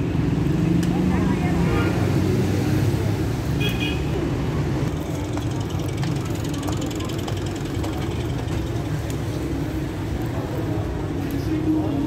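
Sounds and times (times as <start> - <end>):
traffic hum: 0.0 - 12.0
voices of passers-by: 0.0 - 12.0.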